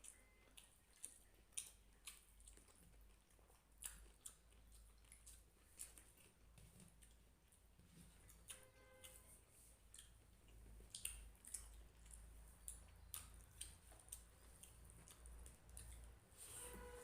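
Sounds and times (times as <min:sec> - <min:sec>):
person chewing food: 0:00.0 - 0:16.8.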